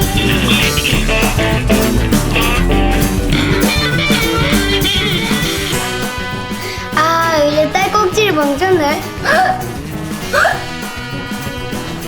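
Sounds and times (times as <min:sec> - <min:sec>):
upbeat music with guitar and drums: 0:00.0 - 0:12.0.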